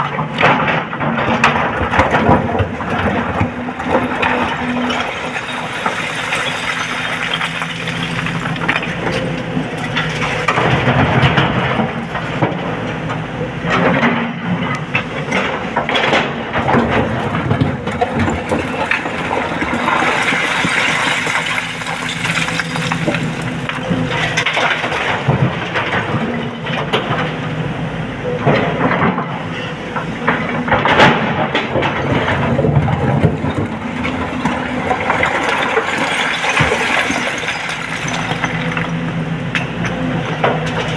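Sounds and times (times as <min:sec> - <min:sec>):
rock and earth clattering: 0:00.0 - 0:12.9, 0:13.7 - 0:27.4, 0:30.2 - 0:40.9
excavator diesel engine running: 0:00.1 - 0:40.9.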